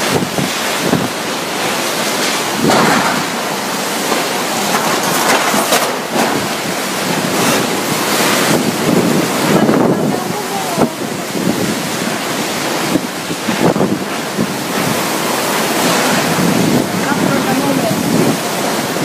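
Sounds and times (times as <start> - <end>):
driving rain: 0.0 - 19.0
strong wind gusts: 0.0 - 19.0
wind buffeting microphone: 0.0 - 19.0.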